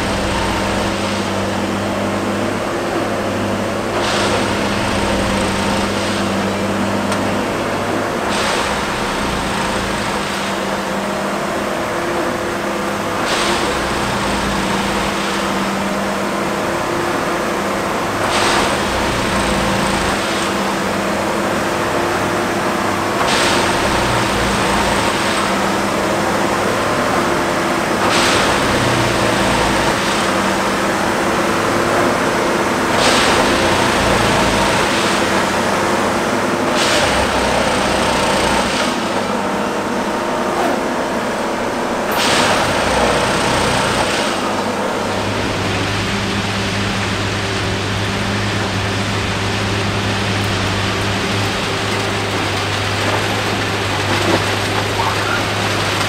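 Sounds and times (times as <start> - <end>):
track maintenance machine running: 0.0 - 56.0.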